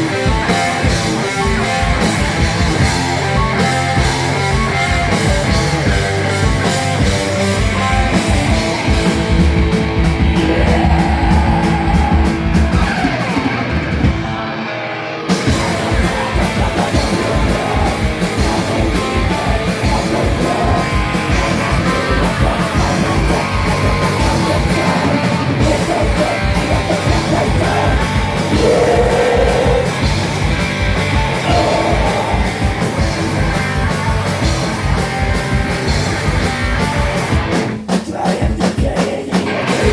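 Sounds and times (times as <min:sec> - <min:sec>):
heavy rock band playing: 0:00.0 - 0:39.9.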